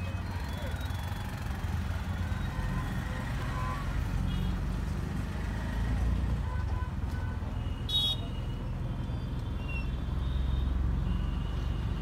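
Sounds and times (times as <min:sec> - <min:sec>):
auto-rickshaw engine rumble: 0:00.0 - 0:12.0
street traffic: 0:00.0 - 0:12.0.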